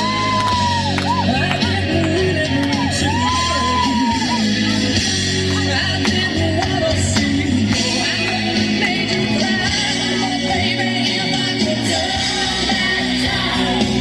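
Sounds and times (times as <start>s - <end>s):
backing music: 0.0s - 14.0s
person singing: 0.0s - 14.0s.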